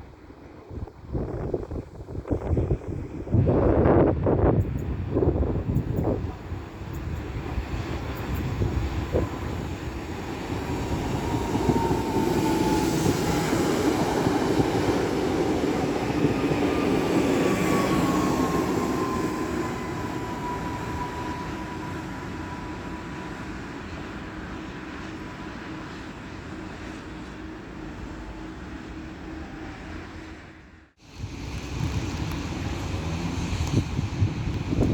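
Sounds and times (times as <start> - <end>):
train passing: 0.0 - 34.9.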